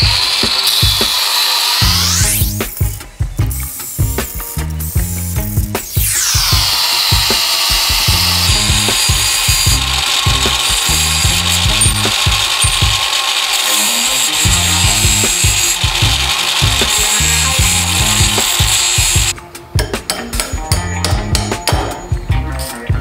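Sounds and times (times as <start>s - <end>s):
angle grinder cutting steel: 0.0s - 19.4s
background music with low beat: 1.8s - 13.1s, 14.3s - 23.0s.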